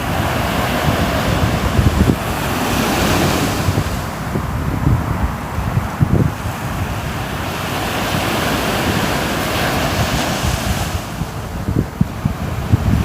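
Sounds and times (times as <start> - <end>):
sea waves washing ashore: 0.0 - 13.0
wind gusting on microphone: 0.0 - 13.0.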